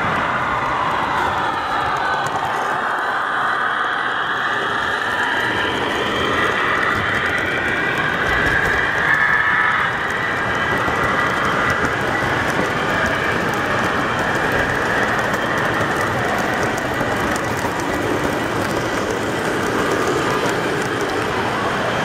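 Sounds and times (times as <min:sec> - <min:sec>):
model train running on rails: 0:00.0 - 0:22.0.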